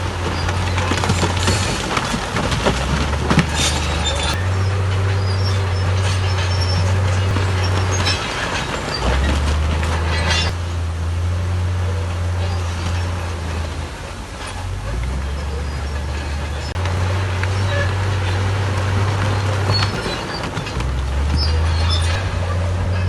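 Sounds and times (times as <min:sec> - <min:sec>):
bulldozer diesel engine: 0:00.0 - 0:23.0
steel tracks clanking and squealing: 0:00.0 - 0:23.0.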